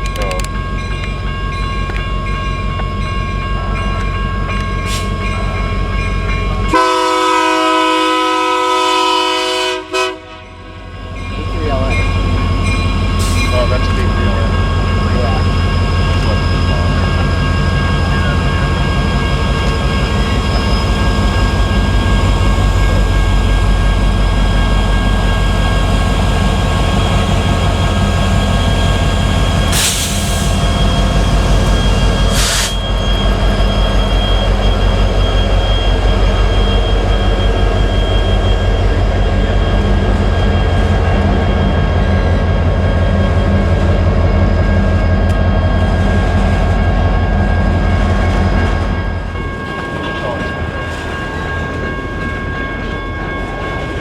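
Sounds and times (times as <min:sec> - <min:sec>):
diesel train low rumble: 0:00.0 - 0:54.0.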